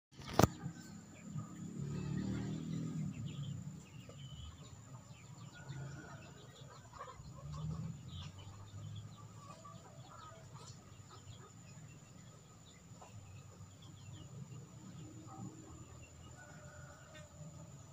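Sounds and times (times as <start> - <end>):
chickens clucking: 0.2 - 17.9.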